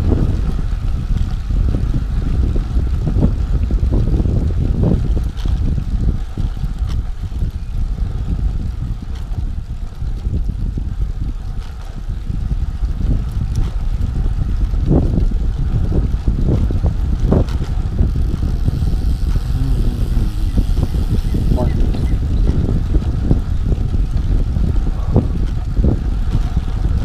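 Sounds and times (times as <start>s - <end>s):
bicycle tyres rolling on concrete: 0.0s - 27.0s
wind buffeting microphone: 0.0s - 27.0s.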